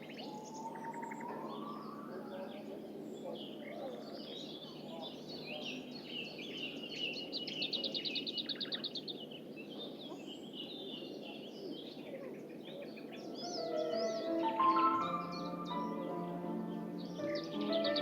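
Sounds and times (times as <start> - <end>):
songbirds chirping and warbling: 0.0 - 18.0.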